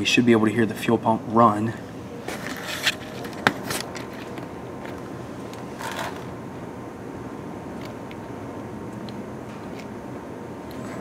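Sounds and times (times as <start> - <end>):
electric fuel pump whirring: 2.0 - 11.0.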